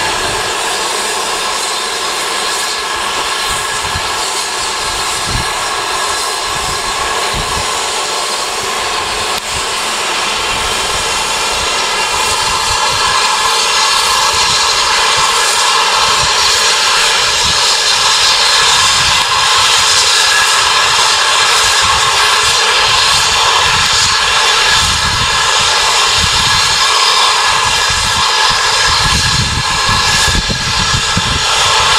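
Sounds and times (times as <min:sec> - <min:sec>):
steam locomotive hissing steam: 0:00.0 - 0:31.9
wind buffeting microphone: 0:00.0 - 0:31.9.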